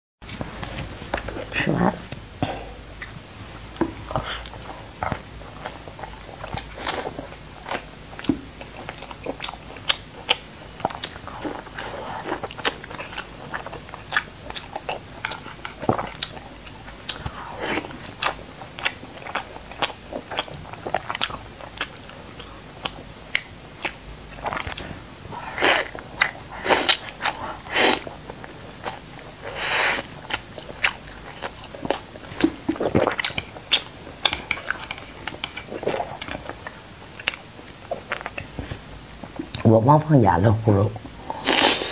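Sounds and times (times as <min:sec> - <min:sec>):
wet chewing and mouth smacks: 0:03.0 - 0:39.6.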